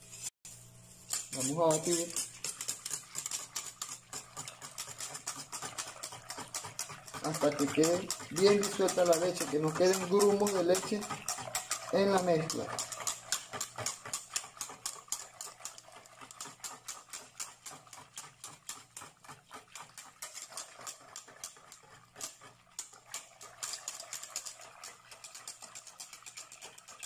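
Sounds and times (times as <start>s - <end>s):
whisk ticking against metal pot: 1.0s - 27.0s.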